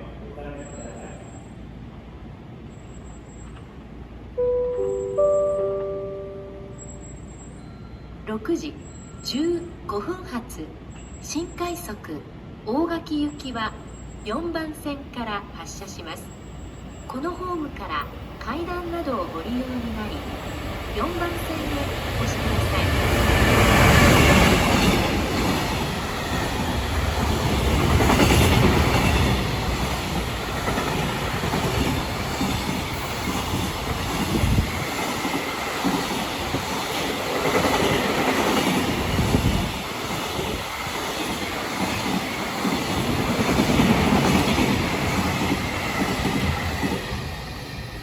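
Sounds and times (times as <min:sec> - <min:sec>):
freight train passing: 0:00.0 - 0:48.0.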